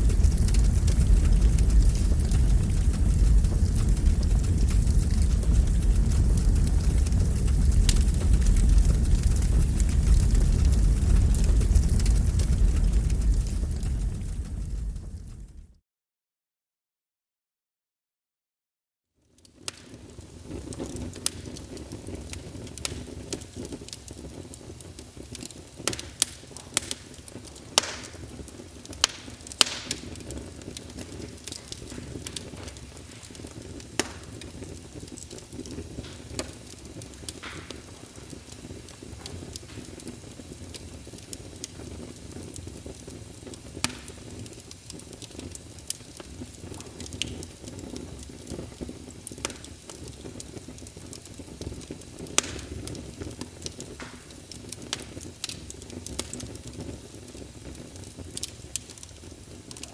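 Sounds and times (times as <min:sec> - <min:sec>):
fire crackling and popping: 0:00.0 - 0:15.8, 0:19.2 - 0:59.9
wood fire flames rumbling: 0:00.0 - 0:15.8, 0:19.3 - 0:59.9.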